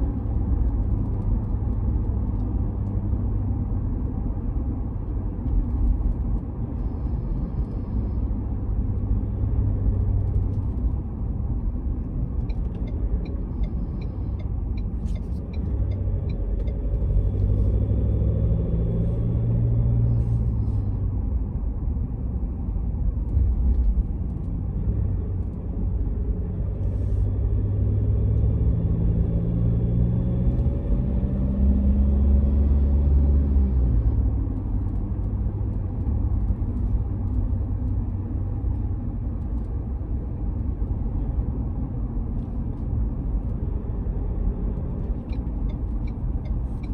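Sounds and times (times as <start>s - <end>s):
diesel engine rumbling: 0.0s - 29.9s, 31.7s - 46.9s.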